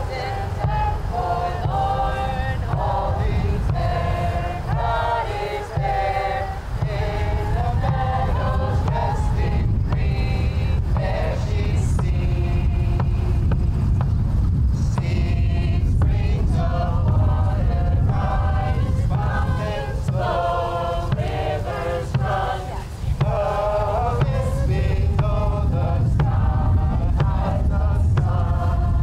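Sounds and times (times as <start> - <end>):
group of voices chanting: 0.0 - 13.1, 15.0 - 29.0
bass drum strokes: 0.0 - 29.0
low rumble: 0.0 - 29.0.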